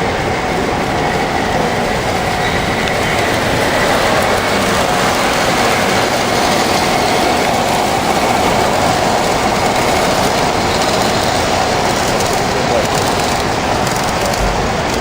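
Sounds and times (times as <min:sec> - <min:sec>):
train rolling on rails: 0:00.0 - 0:15.0.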